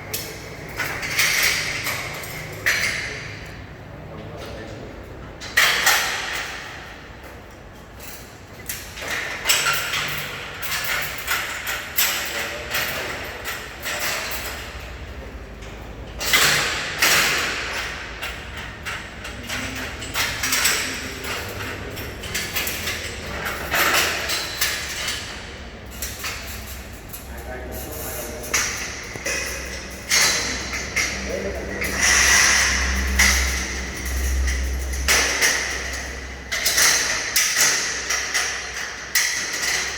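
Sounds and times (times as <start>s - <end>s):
metal scaffolding clanking: 0.0s - 3.7s, 5.4s - 7.3s, 7.9s - 39.9s.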